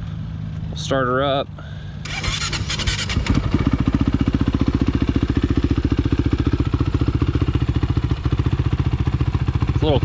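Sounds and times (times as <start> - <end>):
quad engine idling: 1.6 - 10.0.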